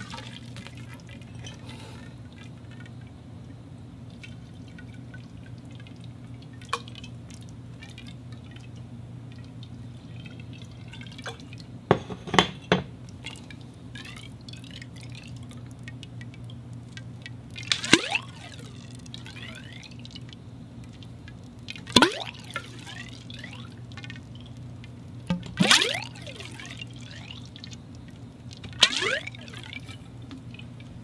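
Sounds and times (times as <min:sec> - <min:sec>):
water dripping in a conduit: 0:00.0 - 0:11.9, 0:12.9 - 0:31.0.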